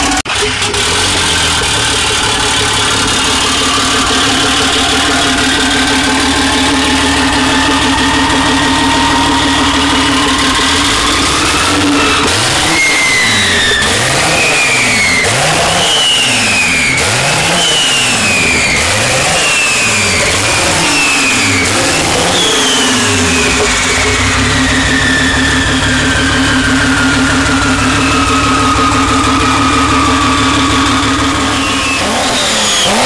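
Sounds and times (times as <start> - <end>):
car engine idling: 0.0 - 33.0
car engine revving: 0.0 - 33.0
turbo whine: 0.0 - 33.0.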